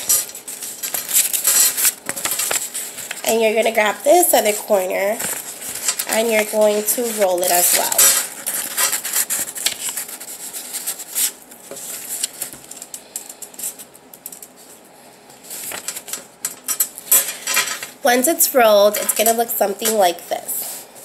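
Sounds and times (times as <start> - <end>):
paper rustling and crackling: 0.0 - 17.9.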